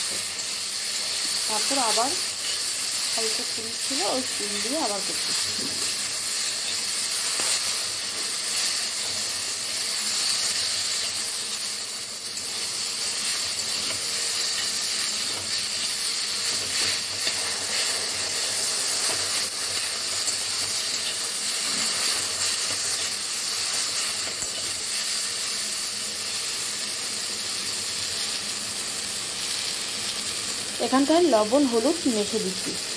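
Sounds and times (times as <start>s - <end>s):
fruit sizzling in hot oil: 0.0s - 32.9s.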